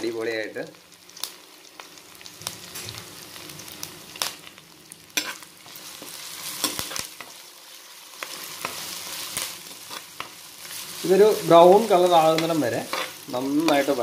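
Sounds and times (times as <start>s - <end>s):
spices sizzling in hot oil: 0.0s - 14.0s.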